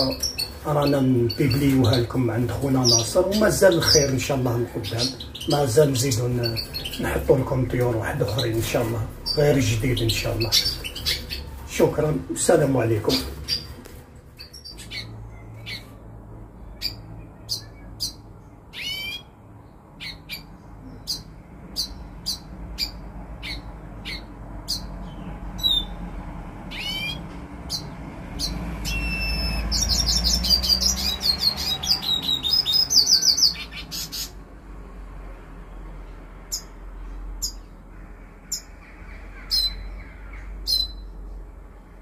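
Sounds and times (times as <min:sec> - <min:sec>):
bird chirps: 0:00.0 - 0:12.2, 0:13.1 - 0:13.8, 0:14.4 - 0:16.0, 0:16.6 - 0:26.0, 0:26.7 - 0:34.4, 0:37.4 - 0:41.3
fast twittering birdsong: 0:00.0 - 0:34.5, 0:35.6 - 0:42.0.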